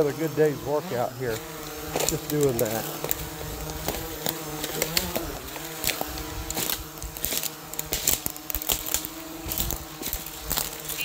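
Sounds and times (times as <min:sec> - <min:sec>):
drone propellers buzzing: 0:00.0 - 0:11.0
sharp clicks and crackles: 0:01.9 - 0:11.0.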